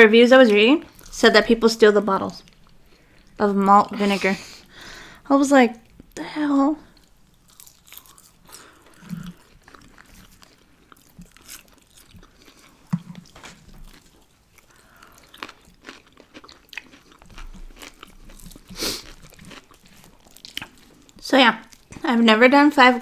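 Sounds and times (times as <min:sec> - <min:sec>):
chewing and crunching food: 0:00.4 - 0:04.0, 0:06.8 - 0:23.0.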